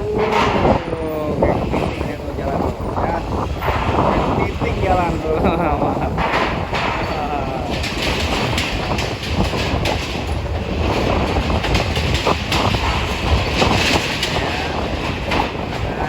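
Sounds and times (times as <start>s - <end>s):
knocks and rattles: 0.0s - 16.0s
steady low rumble: 0.0s - 16.0s
wind buffeting microphone: 0.0s - 16.0s.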